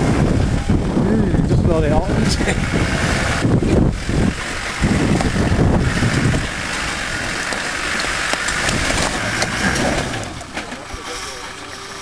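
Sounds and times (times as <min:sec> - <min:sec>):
engine pulling up a track: 0:00.0 - 0:12.0.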